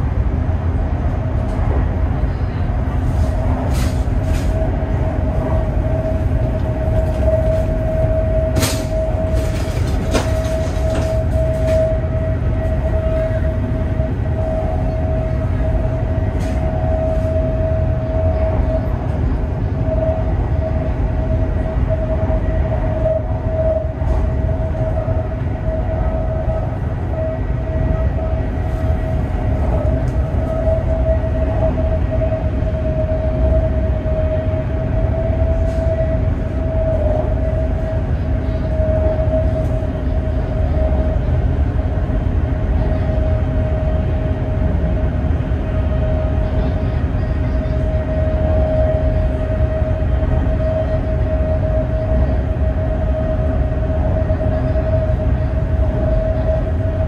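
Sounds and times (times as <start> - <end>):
mid-pitched hum: 0.0 - 57.0
train carriage rumble: 0.0 - 57.0.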